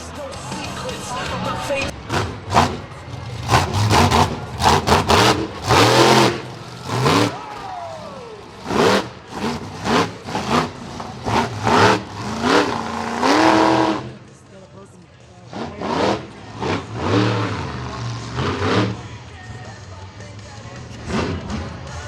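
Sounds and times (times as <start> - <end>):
monster truck engine revving: 0.0 - 14.5, 15.3 - 22.0.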